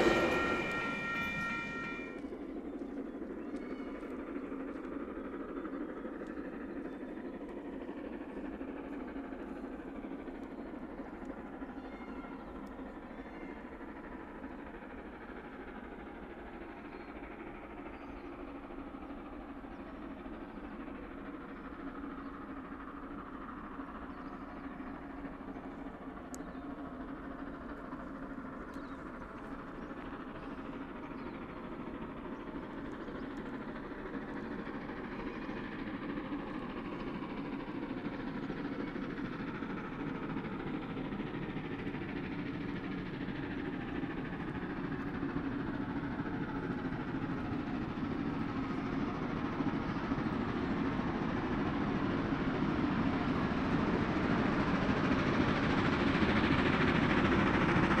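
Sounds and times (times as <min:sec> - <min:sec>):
train engine rumble: 0:00.0 - 0:58.0.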